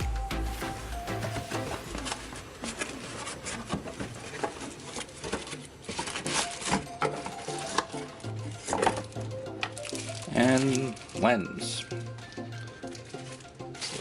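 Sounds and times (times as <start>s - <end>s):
cardboard and plastic rustling: 0.0s - 14.0s.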